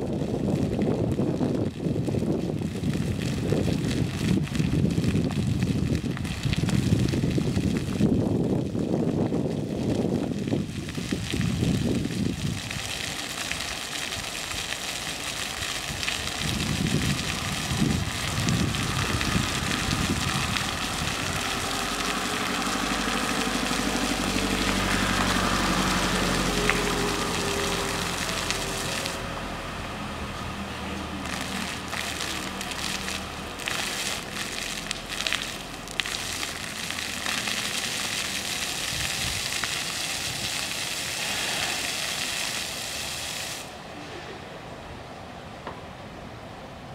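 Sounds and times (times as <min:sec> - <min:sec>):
fountain jets spattering on paving: 0:00.0 - 0:44.3.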